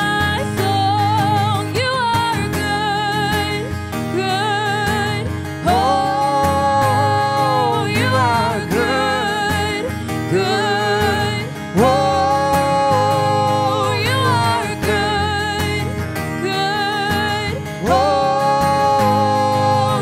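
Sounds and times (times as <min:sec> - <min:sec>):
woman singing: 0:00.0 - 0:20.0.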